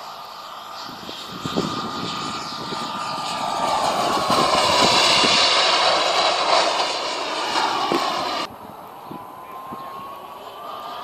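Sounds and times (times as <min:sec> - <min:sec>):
jet turbine rush and whine: 0:00.0 - 0:11.0.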